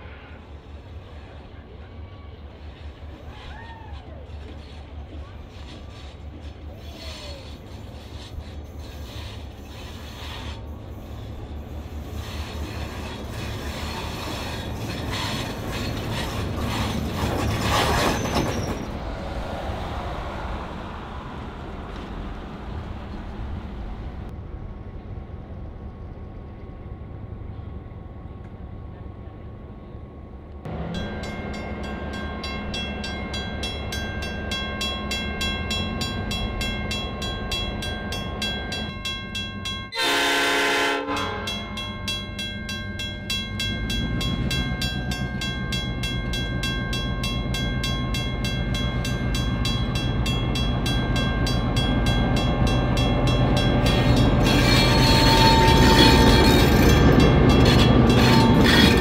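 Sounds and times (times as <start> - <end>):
locomotive engine: 0.0 - 59.0
rapid even clicking of train: 0.2 - 59.0.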